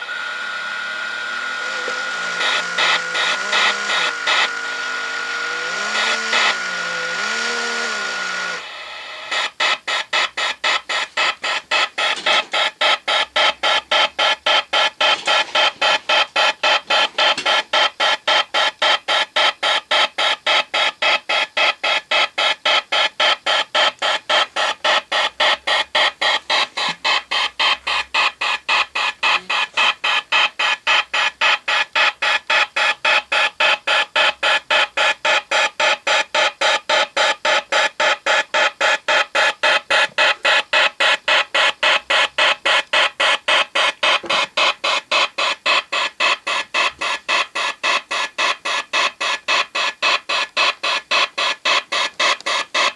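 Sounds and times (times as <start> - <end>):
steam engine chuffing: 1.2 - 52.9.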